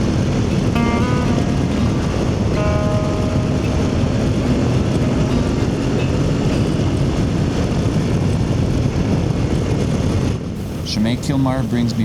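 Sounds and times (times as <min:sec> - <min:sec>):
motorcycle engine running: 0:00.0 - 0:11.9
wind rushing on microphone: 0:00.0 - 0:12.0.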